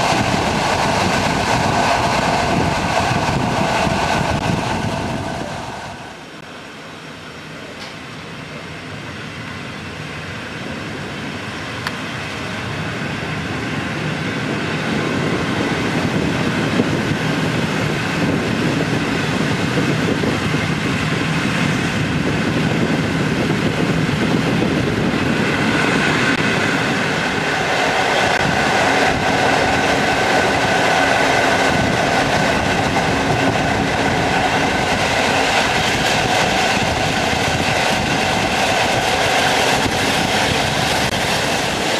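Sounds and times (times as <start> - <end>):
passenger train on rails: 0.0 - 41.9.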